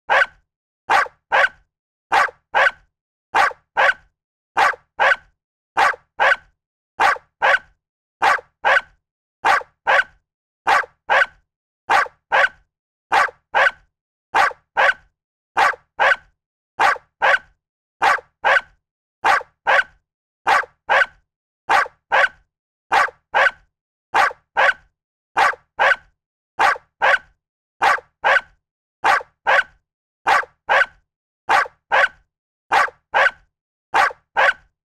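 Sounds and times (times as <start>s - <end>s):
dog barking: 0.1s - 23.6s, 24.2s - 34.7s.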